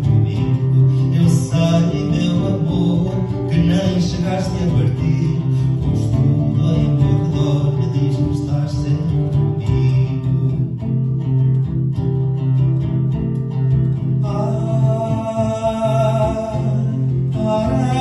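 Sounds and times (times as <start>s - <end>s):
guitar plucked notes: 0.0s - 18.0s.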